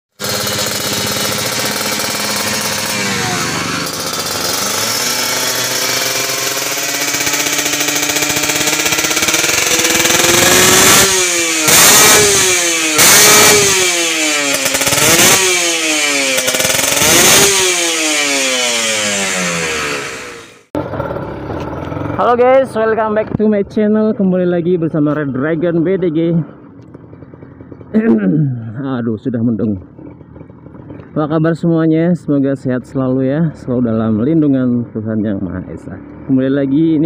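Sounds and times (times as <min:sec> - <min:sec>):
two-stroke motorcycle engine revving: 0:00.1 - 0:23.4, 0:25.1 - 0:31.8, 0:33.5 - 0:37.0.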